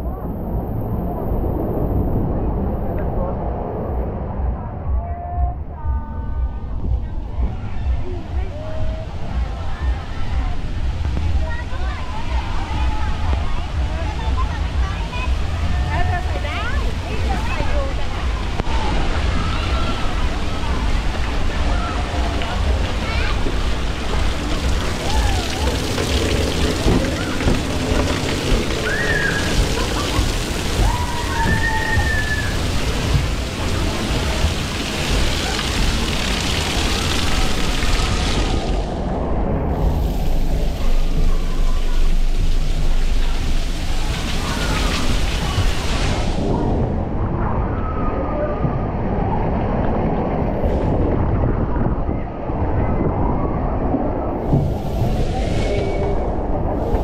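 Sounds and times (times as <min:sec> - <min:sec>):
rushing and splashing water: 0:00.0 - 0:04.5, 0:06.7 - 0:57.0
rumble of slide ride: 0:00.0 - 0:57.0
wind noise on microphone: 0:00.0 - 0:57.0.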